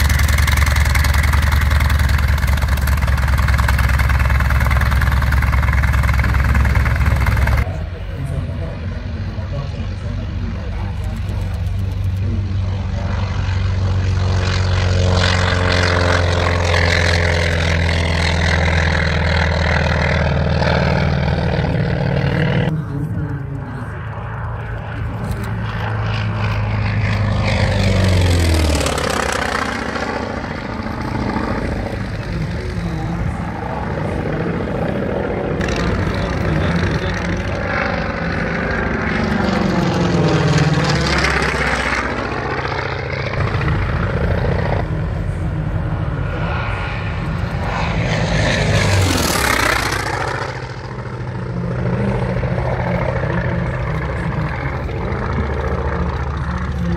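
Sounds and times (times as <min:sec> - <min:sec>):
propeller plane flying past: 0:00.0 - 0:56.9
steady low hum: 0:00.0 - 0:56.9.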